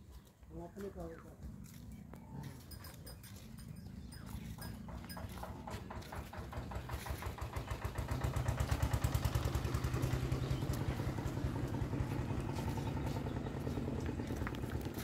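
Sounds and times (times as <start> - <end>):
small engine chugging: 2.4 - 15.0.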